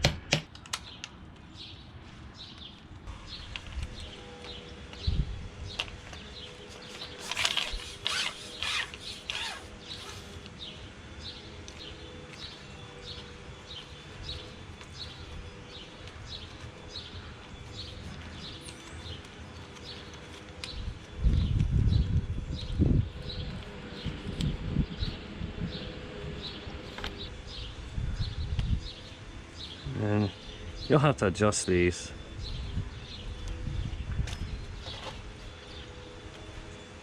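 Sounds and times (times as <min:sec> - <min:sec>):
bird chirping: 0:00.8 - 0:37.0.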